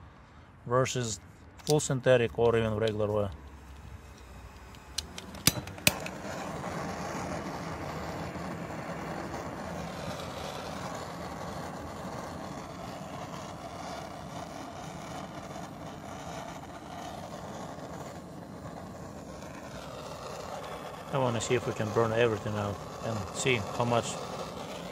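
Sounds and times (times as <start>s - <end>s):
gas torch flame hissing: 1.6s - 24.9s.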